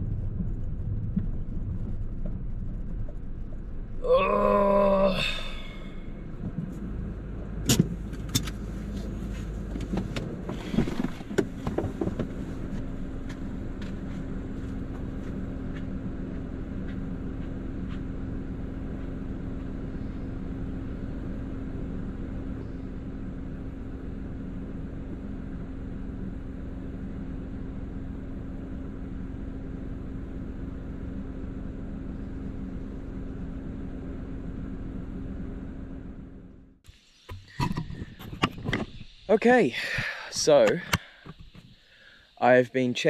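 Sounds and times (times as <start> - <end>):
low hum inside car: 0.0 - 43.0.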